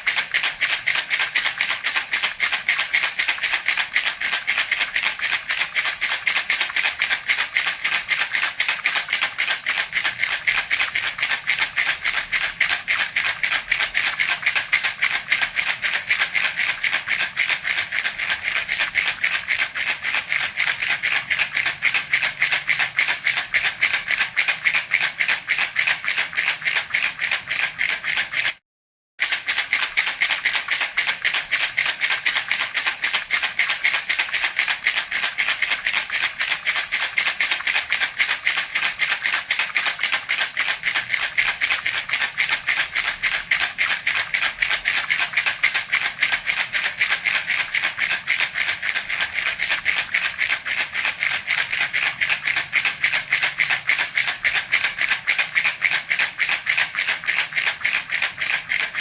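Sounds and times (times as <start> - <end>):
baby rattle shaking: 0.0 - 28.6, 29.2 - 59.0.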